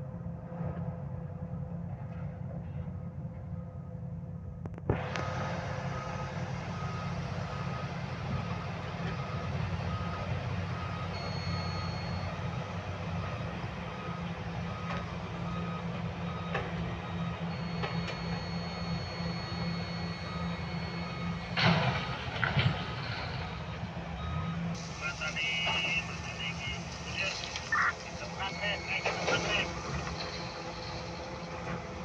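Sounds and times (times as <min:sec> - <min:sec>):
diesel engine running: 0:00.0 - 0:32.0
backup alarm beeping: 0:05.1 - 0:31.8.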